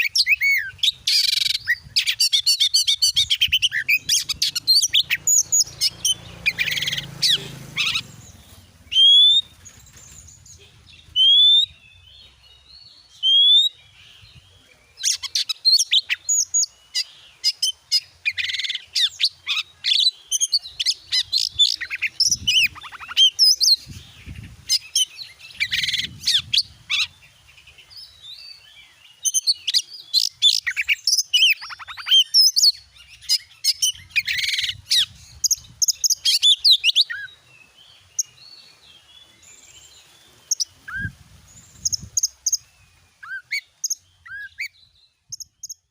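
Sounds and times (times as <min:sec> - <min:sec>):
songbird whistling and twittering: 0:00.0 - 0:45.9.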